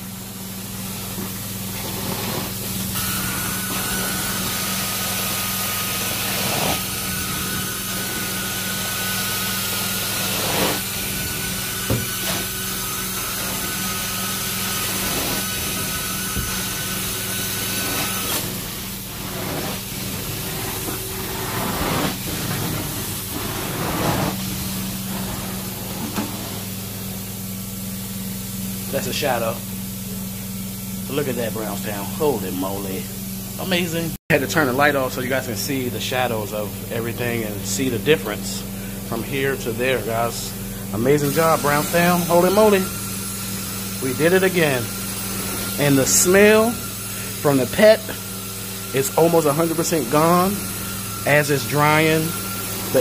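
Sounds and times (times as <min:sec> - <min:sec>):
vacuum hum and suction hiss: 0:00.0 - 0:53.0.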